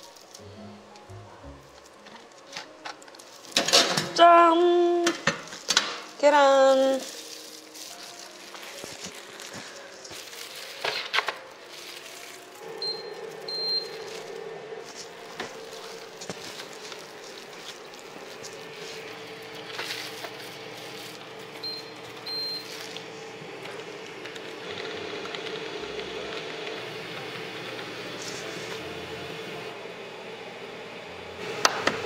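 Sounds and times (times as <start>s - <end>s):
cooker humming: 0.0s - 32.0s.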